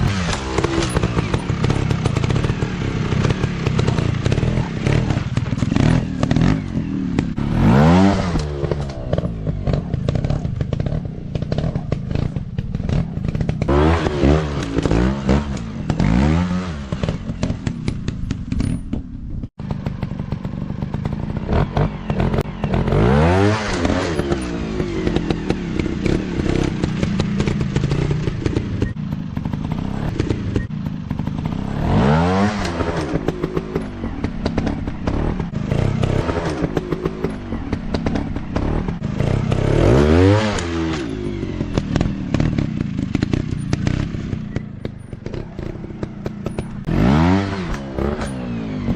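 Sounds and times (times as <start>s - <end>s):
dirt bike engines surging: 0.0s - 48.9s.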